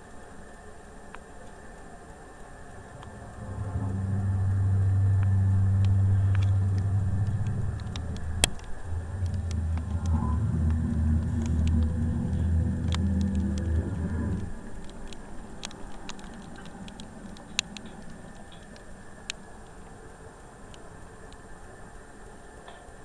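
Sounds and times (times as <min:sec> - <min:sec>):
deep low drone: 0:02.6 - 0:23.0.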